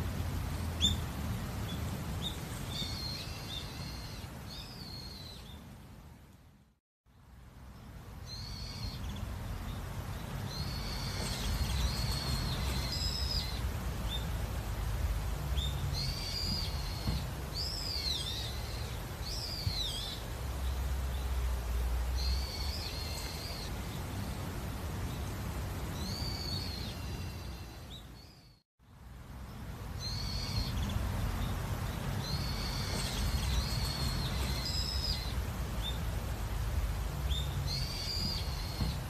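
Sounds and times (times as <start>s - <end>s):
birds calling with whistled notes: 0.0s - 5.8s, 7.7s - 39.0s
steady low rumble: 0.0s - 28.1s, 28.8s - 39.0s.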